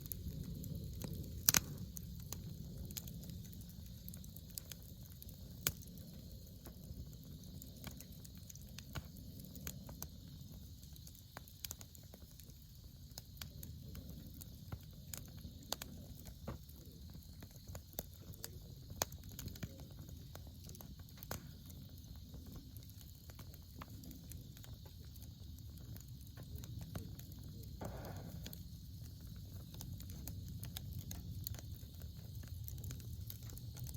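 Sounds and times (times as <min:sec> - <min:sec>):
campfire crackling and popping: 0:00.0 - 0:33.9
low fire rumble: 0:00.0 - 0:33.9.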